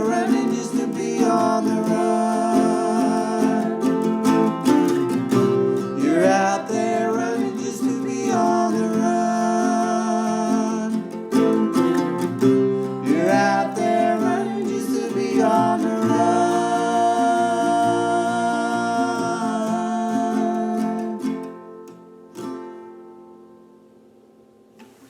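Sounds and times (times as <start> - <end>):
mandolin strumming: 0.0 - 25.0.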